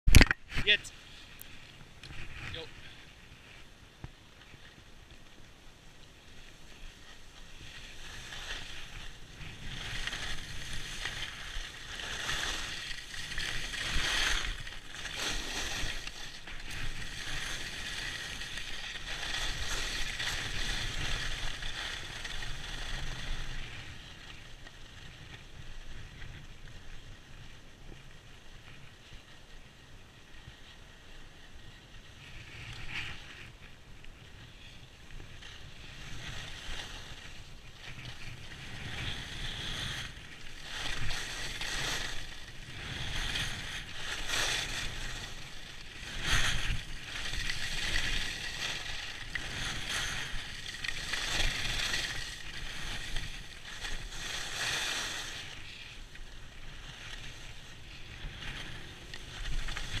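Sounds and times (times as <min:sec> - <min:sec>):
skis scraping on snow: 0:00.5 - 1:00.0.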